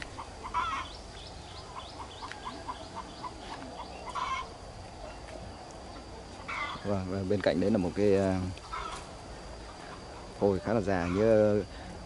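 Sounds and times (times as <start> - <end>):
longer bird calls: 0.0 - 7.1, 8.6 - 11.9.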